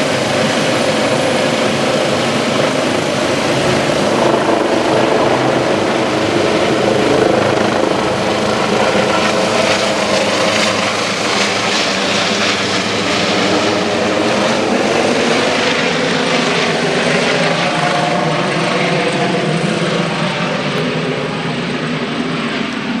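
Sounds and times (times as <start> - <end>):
helicopter rotors and engines: 0.0 - 23.0.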